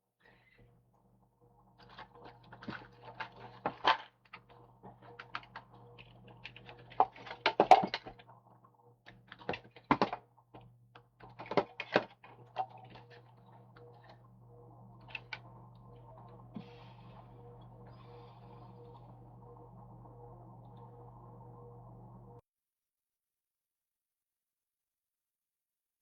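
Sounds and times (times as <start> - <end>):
faint electrical hum: 0.2 - 22.4.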